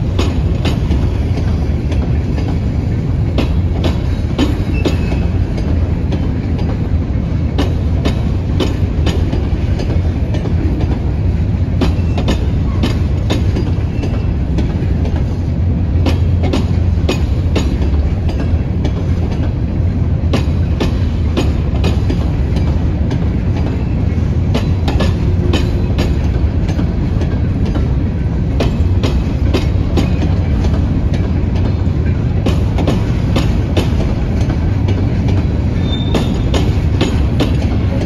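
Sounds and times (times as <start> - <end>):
hopper cars rolling low rumble: 0.0 - 38.0
wheels clanking over rail joints: 0.0 - 38.0.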